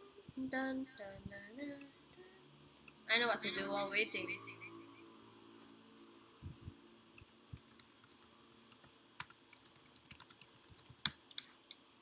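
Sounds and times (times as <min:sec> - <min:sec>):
keyboard typing: 0:00.0 - 0:12.0.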